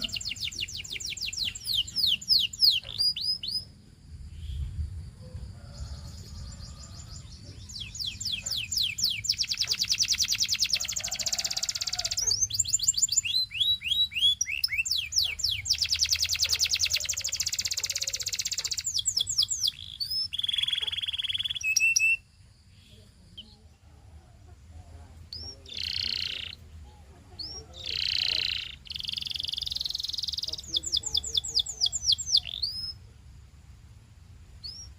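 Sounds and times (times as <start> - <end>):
canary singing trills: 0.0 - 4.7, 5.6 - 23.8, 24.4 - 33.1, 34.6 - 34.9.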